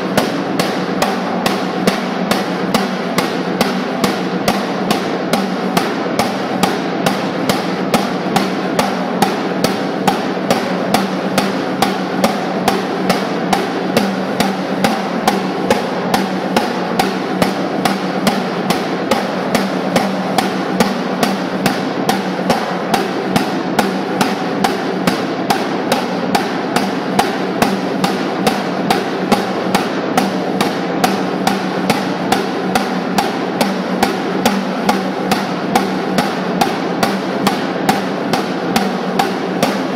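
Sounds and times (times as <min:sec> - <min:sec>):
snare drum roll: 0:00.0 - 0:39.9.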